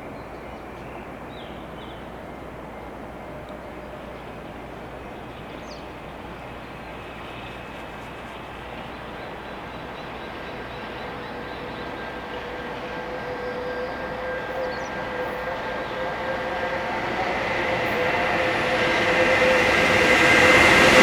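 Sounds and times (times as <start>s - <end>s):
distant train rumble: 0.0s - 21.0s.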